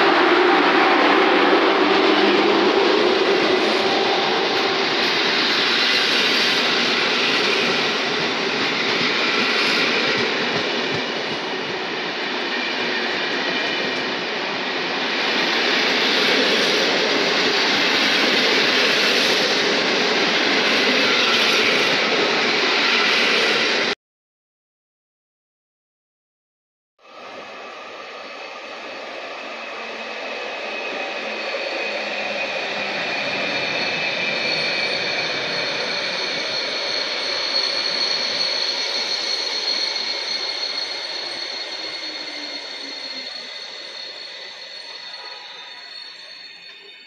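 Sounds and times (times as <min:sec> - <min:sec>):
train wheels rumbling on rails: 0:00.0 - 0:23.9, 0:29.5 - 0:47.0.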